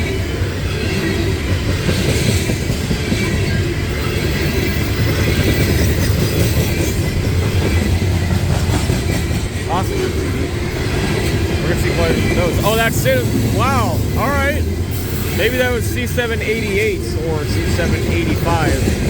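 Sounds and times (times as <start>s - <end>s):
freight train wheels on rail: 0.0s - 19.0s.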